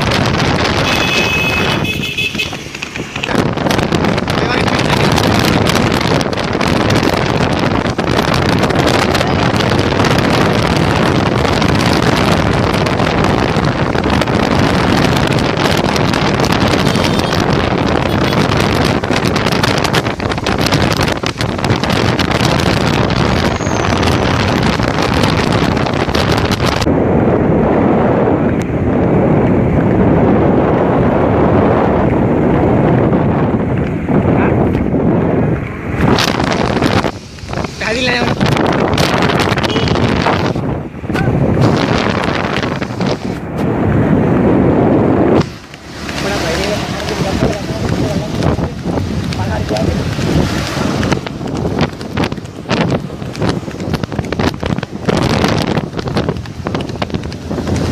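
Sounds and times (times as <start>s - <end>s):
vehicle road noise: 0.0s - 57.9s
wind buffeting microphone: 0.0s - 57.9s.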